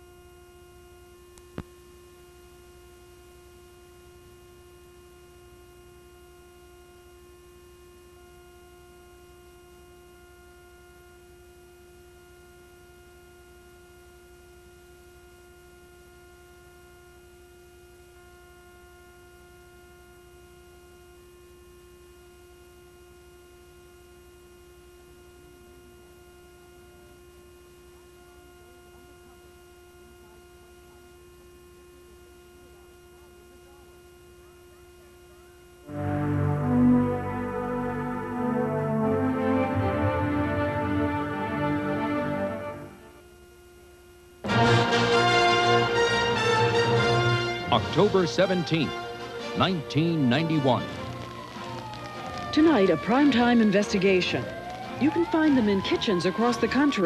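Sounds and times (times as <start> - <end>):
faint electrical hum and buzz: 0.0 - 57.0.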